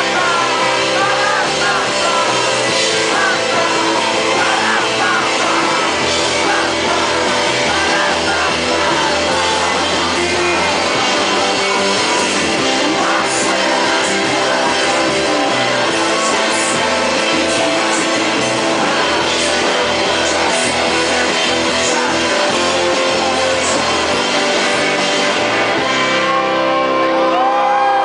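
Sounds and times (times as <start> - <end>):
man singing: 0.0 - 26.0
live rock band playing: 0.0 - 28.0.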